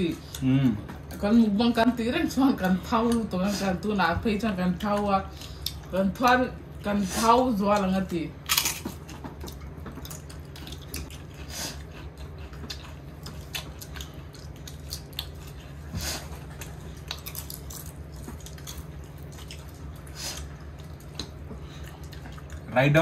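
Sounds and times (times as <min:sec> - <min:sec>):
steady low hum: 0:00.0 - 0:23.0
people chewing: 0:00.1 - 0:01.6, 0:04.5 - 0:23.0.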